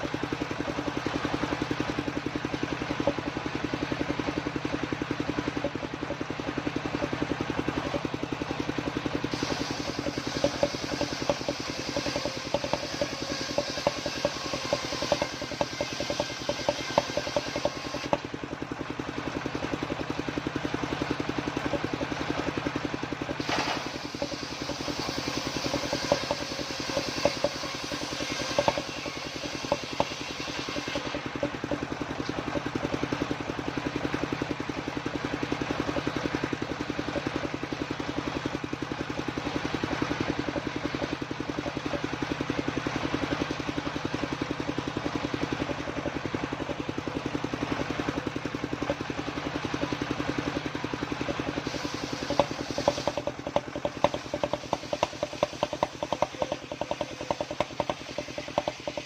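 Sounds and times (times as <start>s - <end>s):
circular saw running: 0.0s - 59.0s.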